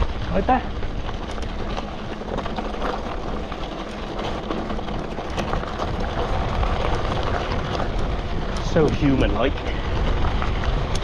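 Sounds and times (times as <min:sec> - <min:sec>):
bike clicks and rattles: 0:00.0 - 0:11.0
wind noise on microphone: 0:00.0 - 0:11.0.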